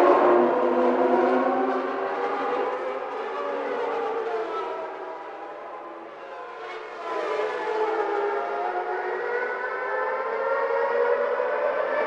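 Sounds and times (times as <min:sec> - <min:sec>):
race car engines at high revs: 0:00.0 - 0:05.3, 0:06.6 - 0:12.0.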